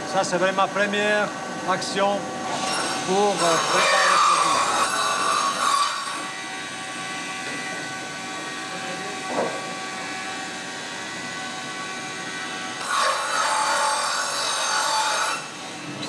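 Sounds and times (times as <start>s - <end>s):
woodworking machinery drone: 0.0s - 16.0s
saw cutting into wood: 2.5s - 16.0s.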